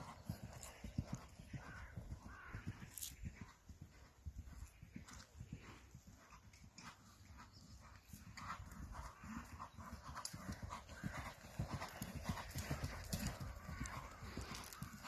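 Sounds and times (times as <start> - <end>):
horse hoofbeats on sand and gravel: 0.0 - 15.0.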